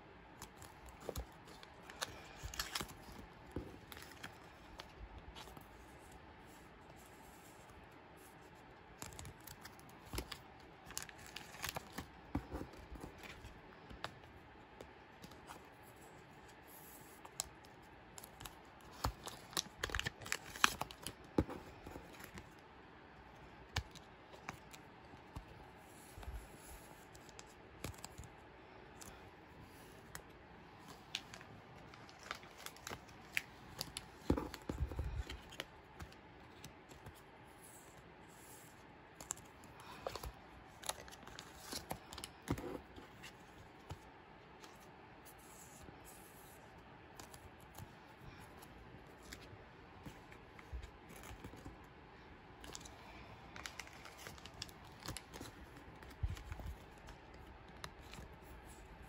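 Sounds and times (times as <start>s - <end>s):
plastic sleeves crinkling: 0.3s - 7.7s, 8.3s - 16.5s, 17.1s - 22.6s, 23.6s - 37.2s, 39.1s - 44.9s, 47.1s - 59.0s.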